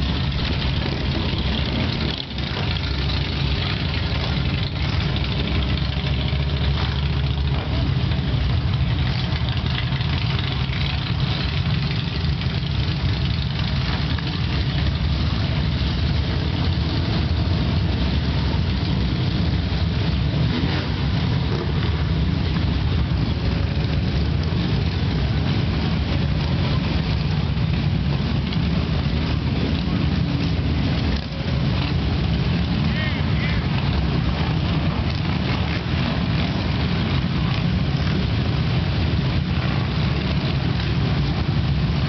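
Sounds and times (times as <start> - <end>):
motorcycle engines rumbling: 0.0 - 42.0.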